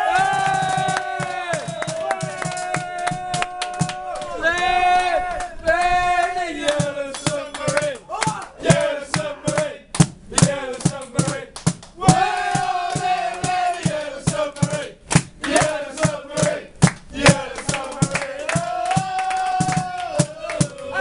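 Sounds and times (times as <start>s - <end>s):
crowd chanting in unison: 2.2s - 21.0s.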